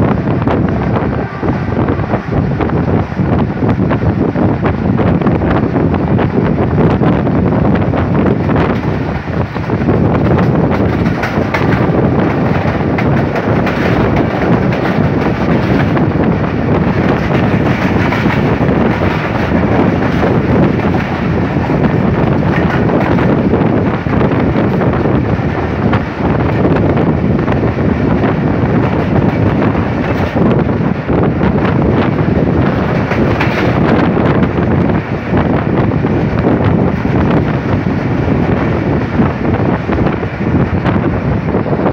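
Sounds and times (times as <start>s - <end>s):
train wheels rumbling on rail: 0.0s - 41.9s
wind buffeting microphone: 0.0s - 41.9s.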